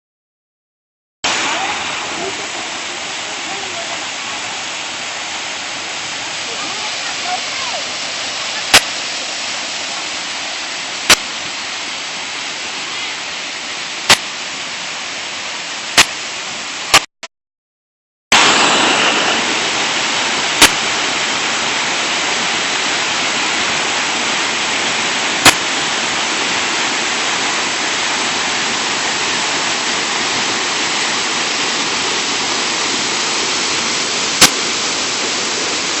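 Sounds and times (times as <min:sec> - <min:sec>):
waterfall rushing: 0:01.2 - 0:17.1, 0:18.3 - 0:36.0.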